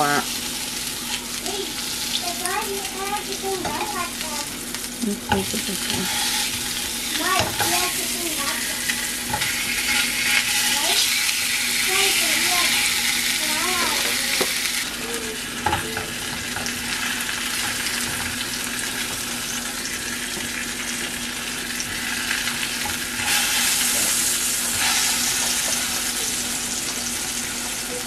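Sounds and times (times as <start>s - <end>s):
hot dogs sizzling in a pan: 0.0s - 28.0s.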